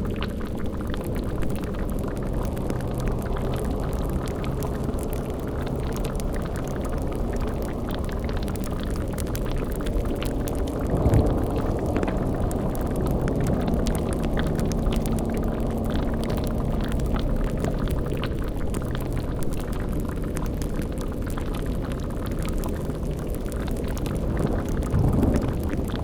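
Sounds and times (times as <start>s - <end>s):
low hum: 0.0s - 21.0s, 21.6s - 26.0s
deep rumble: 0.0s - 26.0s
low thick bubbling: 0.0s - 26.0s
scattered crackles: 0.0s - 26.0s.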